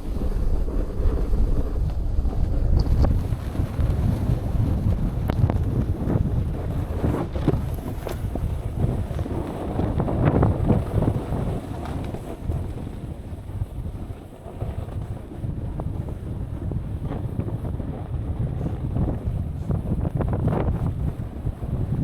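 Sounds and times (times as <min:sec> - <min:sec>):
snowboard edges scraping on snow: 0:00.0 - 0:22.0
wind buffeting microphone: 0:00.0 - 0:22.0.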